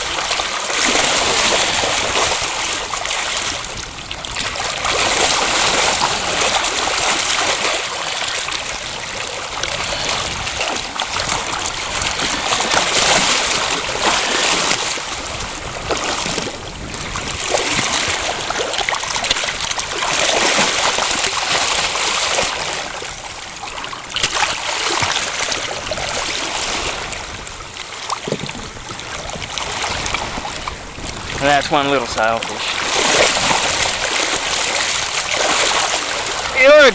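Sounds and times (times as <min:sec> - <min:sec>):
water splashing and rushing: 0:00.0 - 0:36.9.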